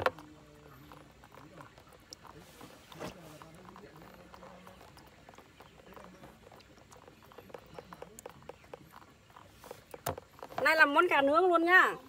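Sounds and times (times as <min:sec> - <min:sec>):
light clicks and ticks: 0:00.0 - 0:11.2.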